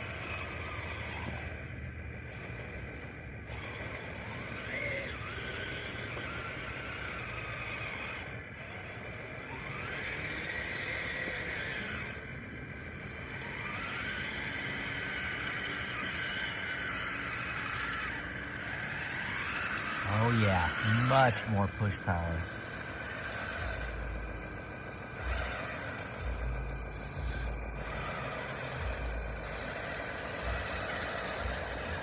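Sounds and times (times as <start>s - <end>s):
running gear mechanical noise: 0.0s - 32.0s
toy bulldozer motors whining: 0.0s - 32.0s.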